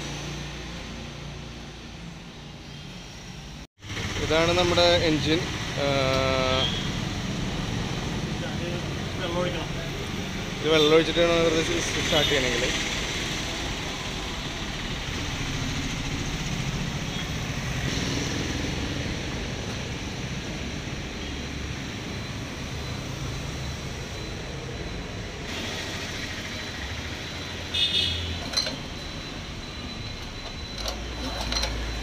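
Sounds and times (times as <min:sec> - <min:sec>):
traffic and street noise: 0:00.0 - 0:32.0.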